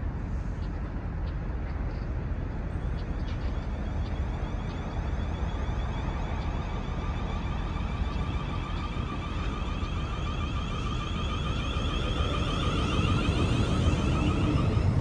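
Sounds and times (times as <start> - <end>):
faint steady whine: 0.0 - 15.0
train rumbling: 0.0 - 15.0.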